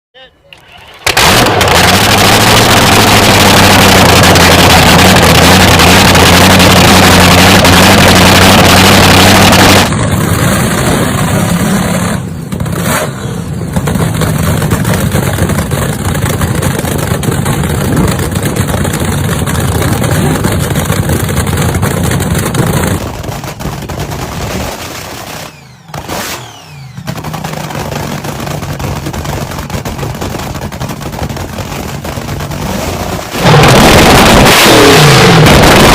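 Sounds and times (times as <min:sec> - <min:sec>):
dragster engine running: 0:00.8 - 0:35.9.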